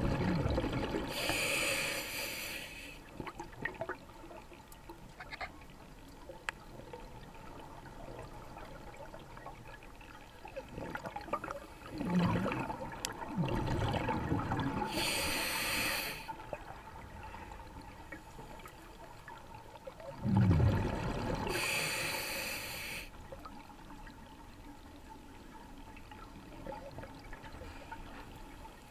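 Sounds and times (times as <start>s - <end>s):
exhaled bubbles rumbling underwater: 0.0s - 1.9s, 3.0s - 22.2s, 23.2s - 27.8s.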